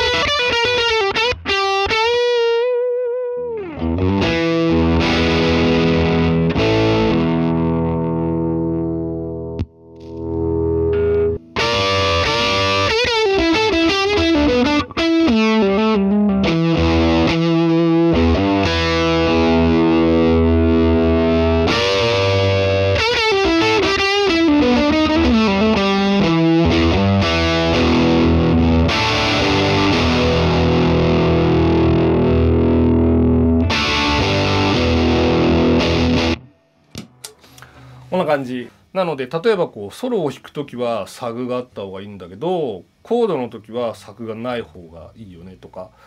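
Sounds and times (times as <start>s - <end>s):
overdriven electric guitar: 0.0s - 37.9s.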